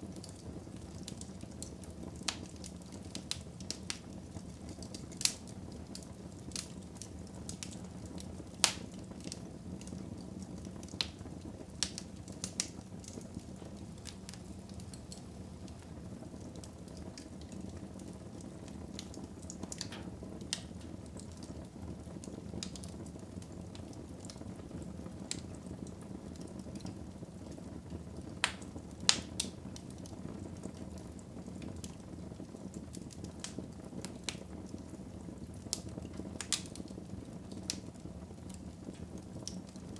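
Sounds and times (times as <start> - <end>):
fire crackles and pops: 0.0 - 39.9
low rush of flame: 0.0 - 39.9.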